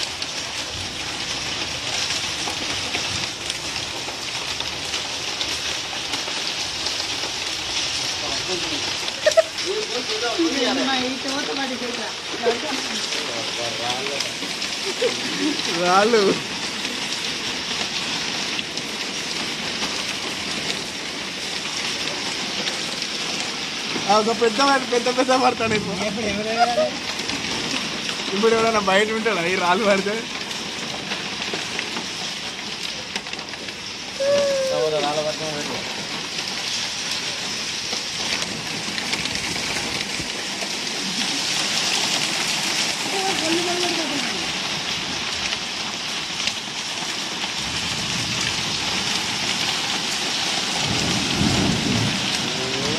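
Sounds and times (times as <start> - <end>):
hailstones ticking: 0.0 - 52.9
heavy rain hissing on concrete: 0.0 - 52.9.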